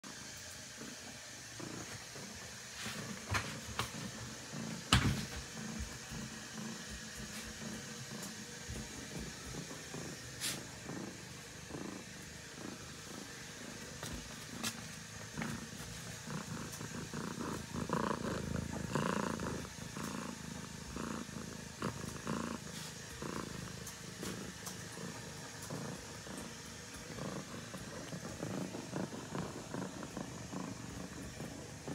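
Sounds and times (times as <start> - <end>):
cat purring: 0.1 - 31.9.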